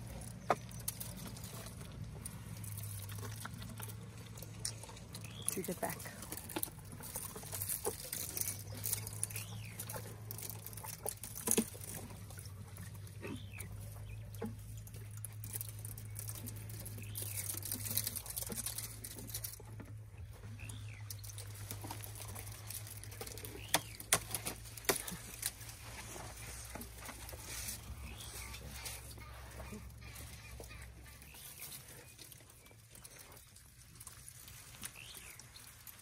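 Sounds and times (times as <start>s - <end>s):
branches brushing: 0.0s - 36.0s
elephants crunching branches: 0.0s - 36.0s.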